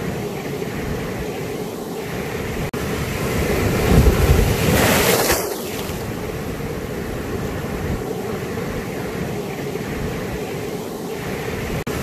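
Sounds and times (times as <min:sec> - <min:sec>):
sea surf washing over rocks: 0:02.1 - 0:12.0.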